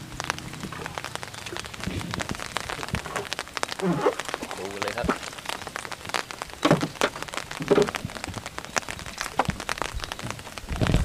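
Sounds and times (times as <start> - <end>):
water sloshing: 0.0 - 10.2
water splashing and dripping: 0.0 - 11.0.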